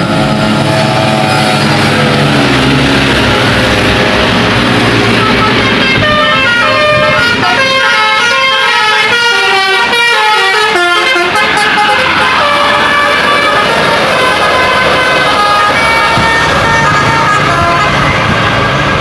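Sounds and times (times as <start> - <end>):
vehicle engine and tyres rumbling: 0.0 - 19.0
bus musical horn playing tune: 0.5 - 2.4, 3.0 - 19.0.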